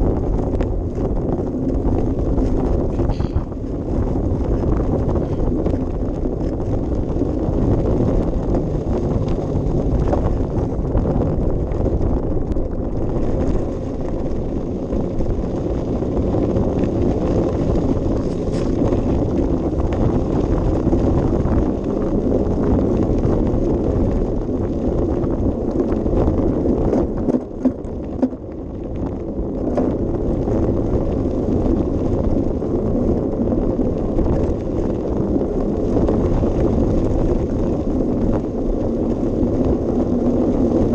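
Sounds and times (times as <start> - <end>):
bicycle ride rumble: 0.0 - 40.9
wind on microphone: 0.0 - 40.9.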